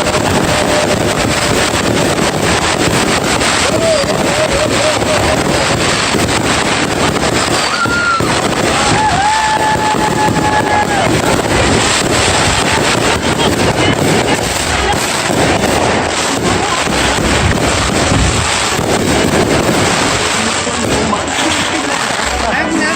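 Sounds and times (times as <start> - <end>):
firework whistle: 0.0 - 22.9
fireworks cracking and banging: 0.0 - 22.9.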